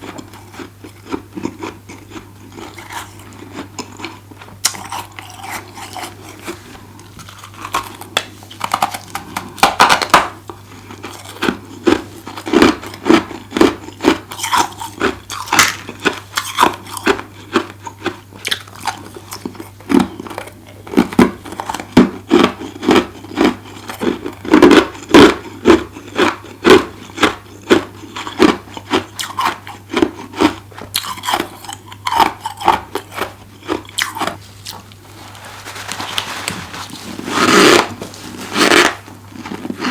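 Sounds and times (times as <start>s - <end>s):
chewing crunchy ice: 0.0s - 35.0s, 36.9s - 39.9s.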